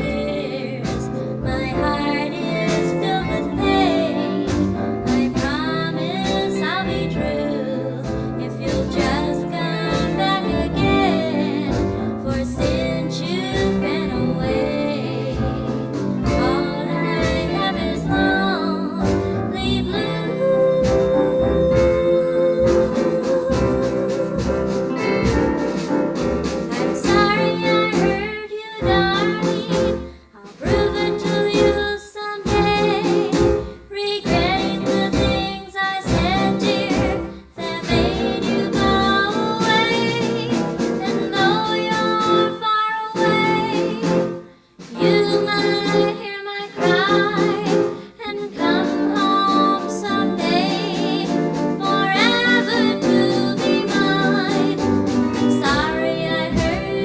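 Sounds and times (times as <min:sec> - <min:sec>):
woman singing: 0:00.0 - 0:25.8, 0:26.7 - 0:57.0
backing band: 0:00.0 - 0:57.0.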